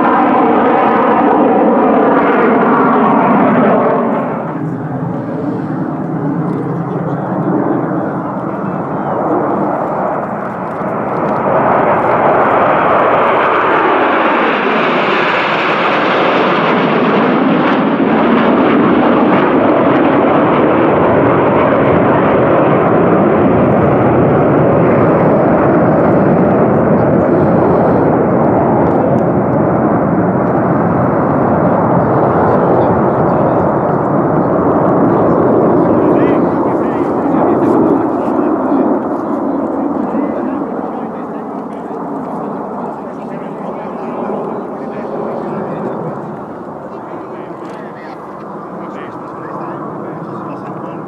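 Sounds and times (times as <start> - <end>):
jets passing overhead: 0.0 - 51.0.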